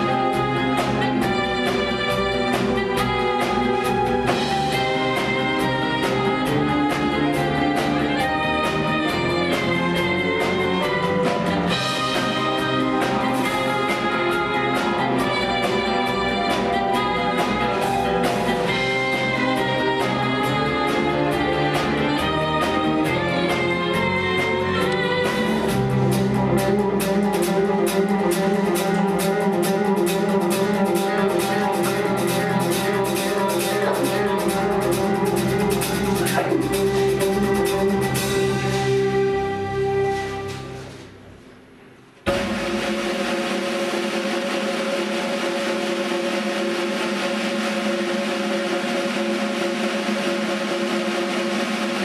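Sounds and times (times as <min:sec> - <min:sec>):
upbeat show music with brass: 0:00.0 - 0:52.0.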